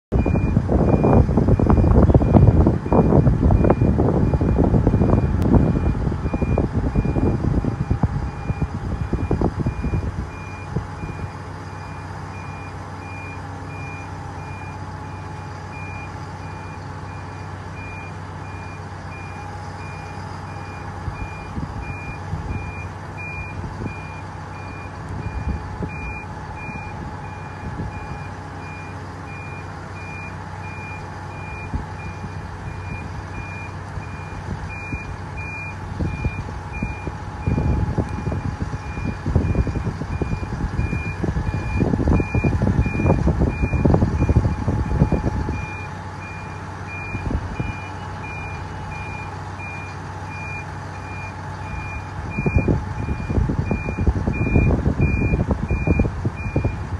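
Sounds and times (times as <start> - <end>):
engine running low hum: 0.0 - 56.9
loud low rumbling: 0.1 - 56.9
reversing alarm beeping: 0.1 - 56.9.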